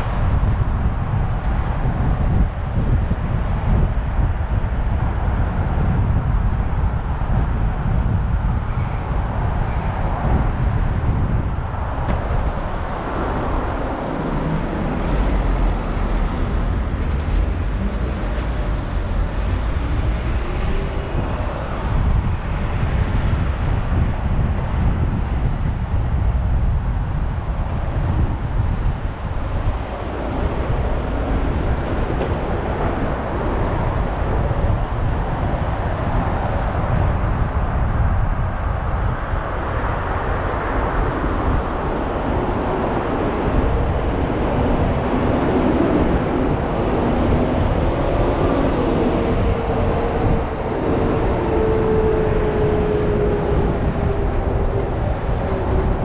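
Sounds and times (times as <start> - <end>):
car road and wind noise: 0.0 - 56.0
deep engine rumble: 0.0 - 56.0.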